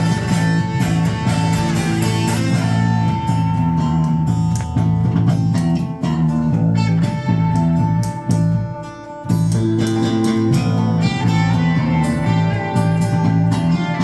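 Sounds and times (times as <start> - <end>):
bass guitar: 0.0 - 14.0
guitars: 0.0 - 14.0.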